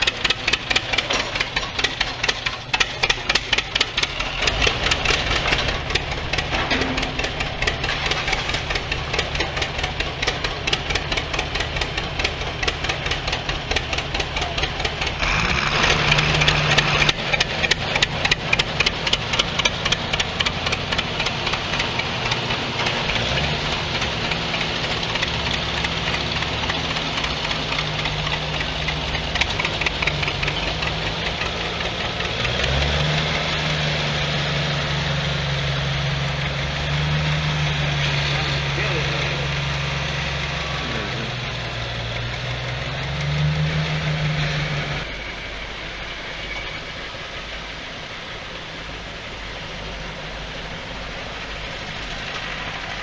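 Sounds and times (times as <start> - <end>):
tractor engines passing: 0.0 - 53.0.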